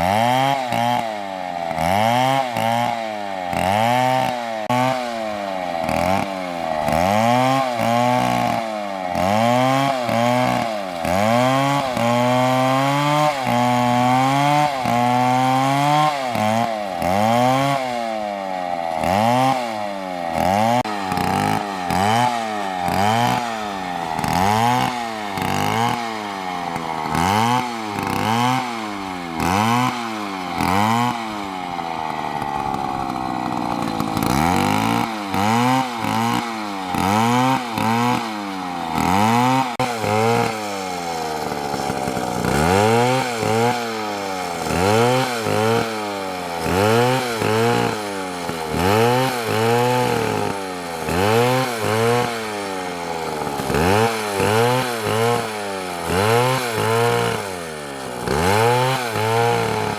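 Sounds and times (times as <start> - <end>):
chainsaw cutting tree: 0.0 - 59.9.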